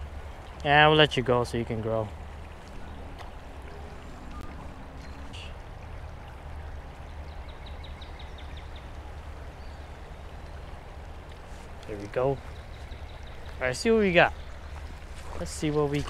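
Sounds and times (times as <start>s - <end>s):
river water over rocks: 0.0s - 16.0s.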